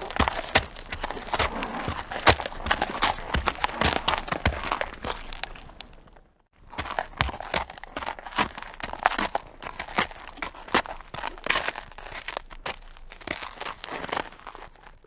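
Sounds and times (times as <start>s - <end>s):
horse crunching dry hay: 0.0s - 13.1s.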